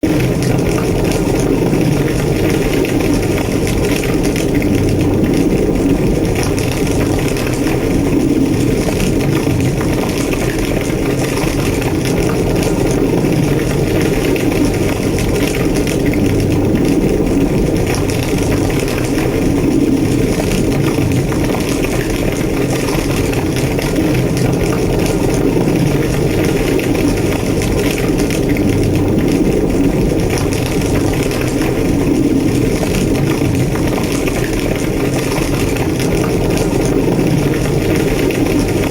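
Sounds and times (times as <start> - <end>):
fire crackling and popping: 0.0 - 38.9
roar of flames: 0.0 - 38.9.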